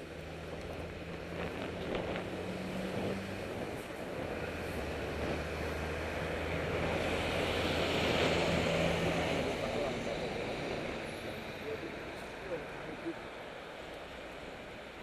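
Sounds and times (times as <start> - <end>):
passing vehicles engine hum: 0.0 - 15.0
wind rushing on microphone: 0.2 - 13.2.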